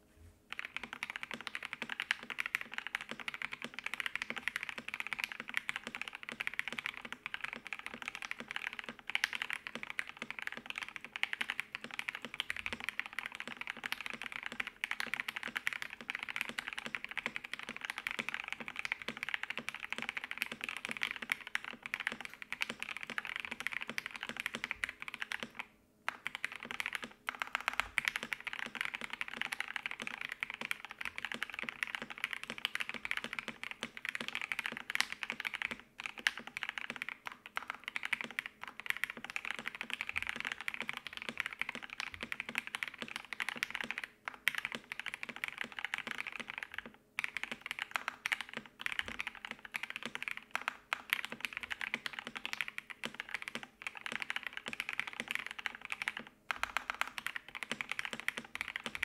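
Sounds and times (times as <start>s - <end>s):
fast mechanical keyboard typing: 0.5s - 59.0s.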